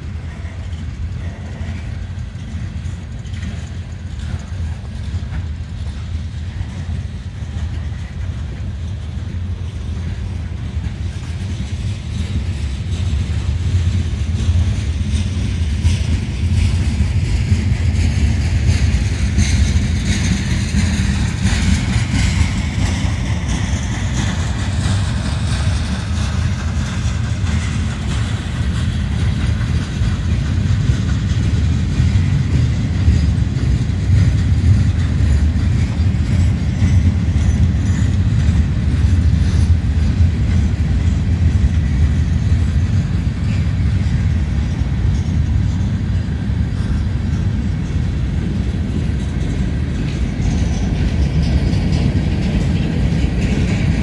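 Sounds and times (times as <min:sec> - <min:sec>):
freight train rumbling past: 0:00.0 - 0:54.0
wheels on rails: 0:00.0 - 0:54.0.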